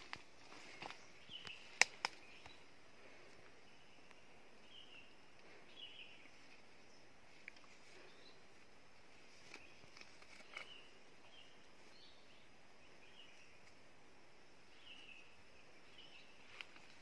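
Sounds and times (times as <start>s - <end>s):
distant birds chirping: 0.0s - 17.0s.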